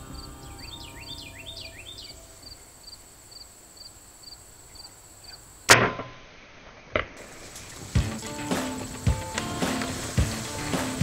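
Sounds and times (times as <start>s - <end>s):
insects chirping: 0.0s - 5.7s, 7.2s - 11.0s.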